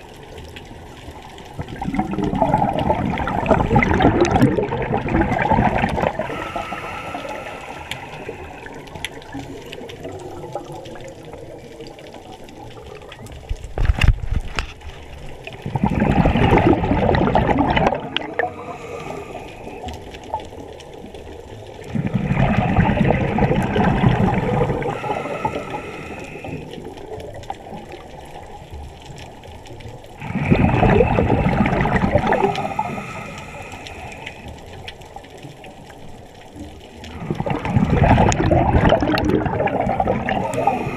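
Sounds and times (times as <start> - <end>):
exhaled bubbles gurgling: 0.0 - 40.9.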